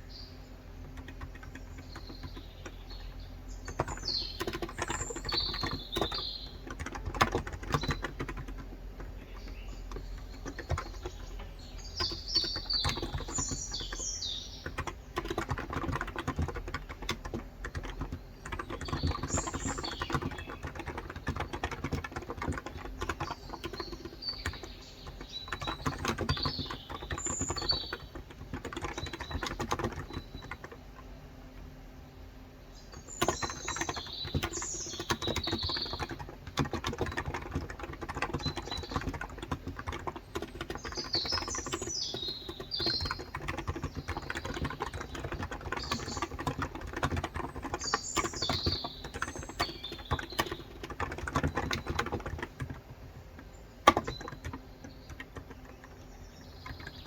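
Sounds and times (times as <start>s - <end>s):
birds chirping: 0.0s - 57.0s
fast typing on keyboard: 0.6s - 31.6s, 32.9s - 57.0s.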